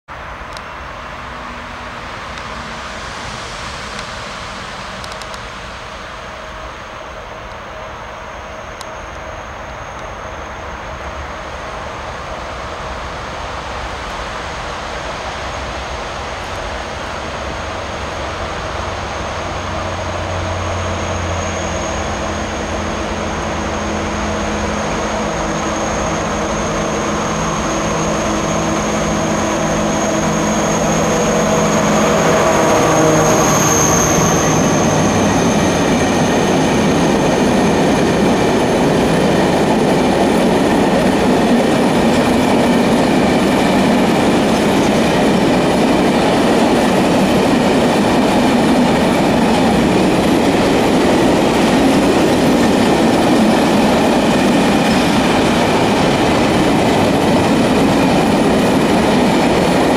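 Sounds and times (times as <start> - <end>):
diesel locomotive engine: 0.1 - 59.9
freight train running noise: 0.1 - 59.9.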